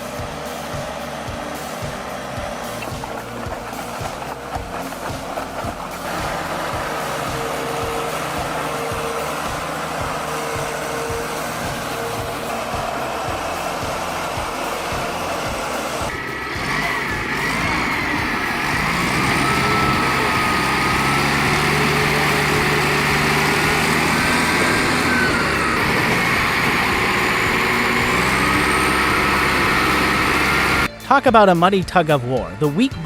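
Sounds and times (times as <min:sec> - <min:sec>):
heavy machinery engine whining: 0:00.0 - 0:30.9.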